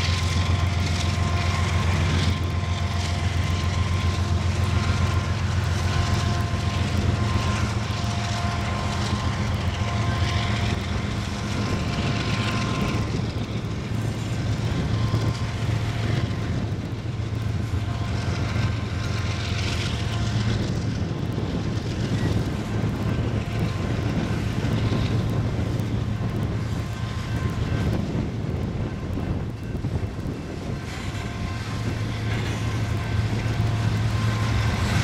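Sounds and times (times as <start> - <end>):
locomotive engine drone: 0.0 - 35.0
train rumble: 0.0 - 35.0.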